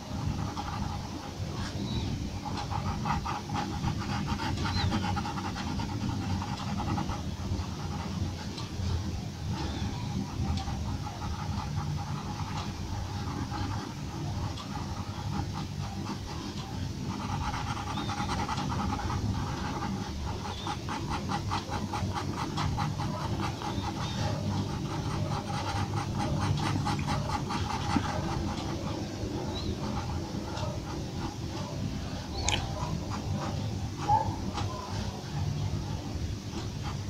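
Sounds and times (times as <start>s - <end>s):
low background hum: 0.0s - 37.0s
pencil scratching on paper: 0.0s - 37.0s.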